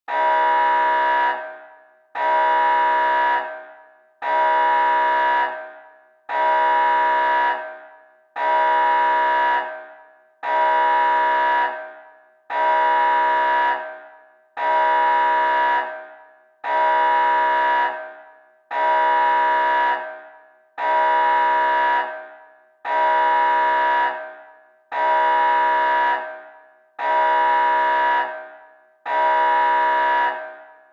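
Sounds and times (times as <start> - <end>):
alarm horn blasts: 0.1 - 30.7.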